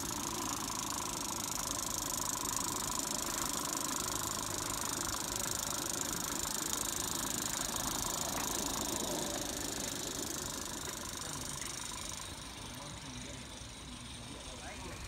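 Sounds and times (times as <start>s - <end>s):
steam hissing: 0.0s - 15.0s
steam locomotive chuffing: 0.0s - 15.0s
wheels rattling over rails: 0.0s - 15.0s.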